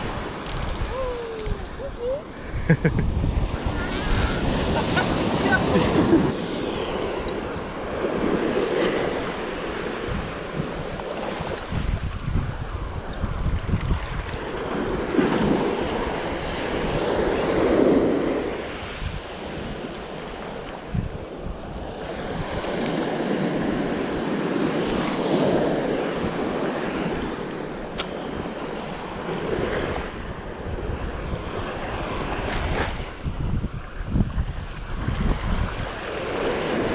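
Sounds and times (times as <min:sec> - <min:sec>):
ocean surf breaking: 0:00.0 - 0:12.0, 0:14.3 - 0:33.4
wind buffeting microphone: 0:00.0 - 0:36.9.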